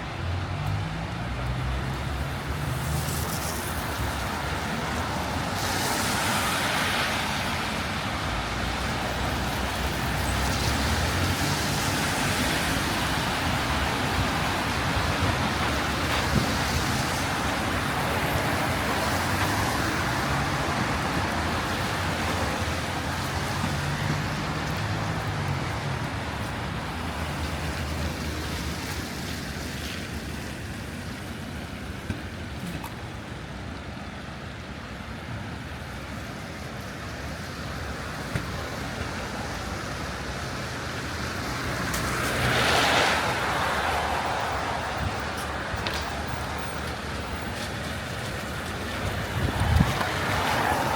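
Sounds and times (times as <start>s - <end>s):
tyres hissing on wet road: 0.1s - 50.9s.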